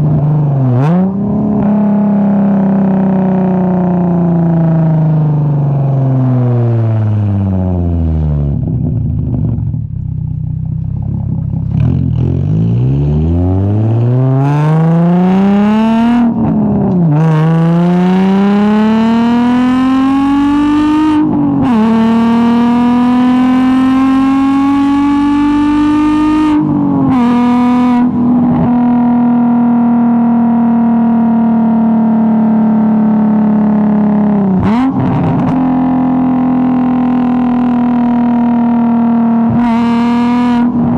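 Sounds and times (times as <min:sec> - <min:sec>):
car engine revving through gears: 0:00.0 - 0:04.8, 0:11.2 - 0:40.9.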